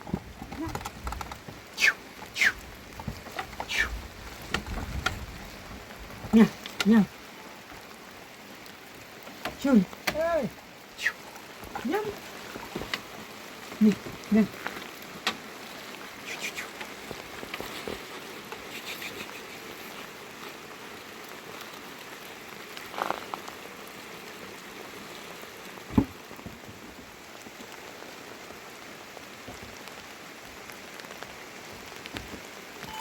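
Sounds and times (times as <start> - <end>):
steady rain patter: 0.0 - 33.0.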